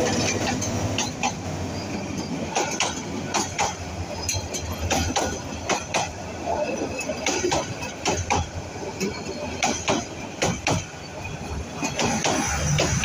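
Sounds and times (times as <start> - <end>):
train coaches rumbling: 0.0 - 13.0.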